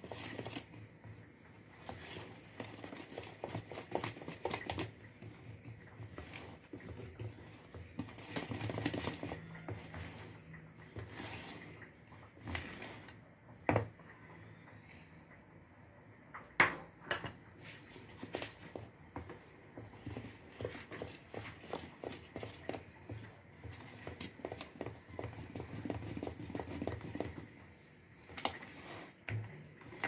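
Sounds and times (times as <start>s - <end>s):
utensil scraping mixing bowl: 0.0s - 13.3s, 17.6s - 30.0s.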